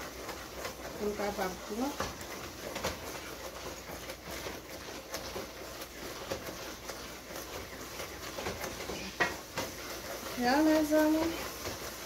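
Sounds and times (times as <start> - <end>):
wooden spoon scraping metal pot: 0.0 - 12.0.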